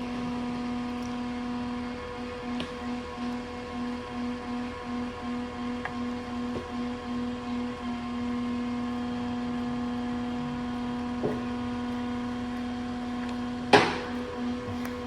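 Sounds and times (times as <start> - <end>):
electric motor humming: 0.0 - 15.0.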